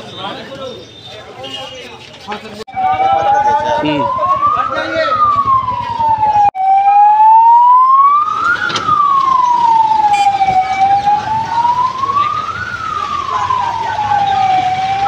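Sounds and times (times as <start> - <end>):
ambulance siren wailing: 2.7 - 15.0.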